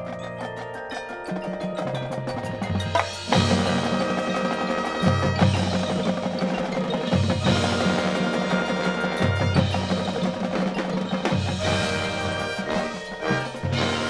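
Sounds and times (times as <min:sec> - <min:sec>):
mallet percussion and bells: 0:00.0 - 0:14.0
marching band playing: 0:01.3 - 0:14.0.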